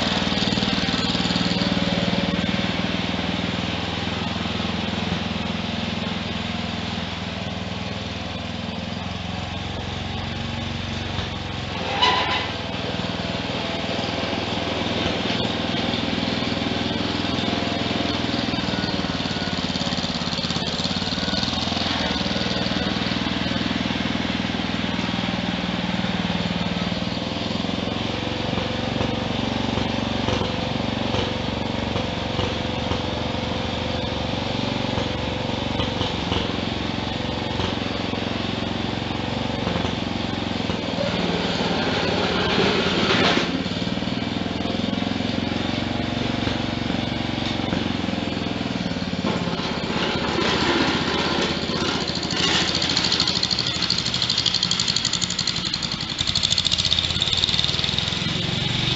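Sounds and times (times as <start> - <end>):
small tractor engine running: 0.0 - 58.9.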